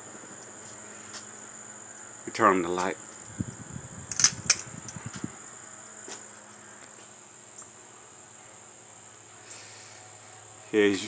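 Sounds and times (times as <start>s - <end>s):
ceiling fan humming and whining: 0.0s - 11.0s.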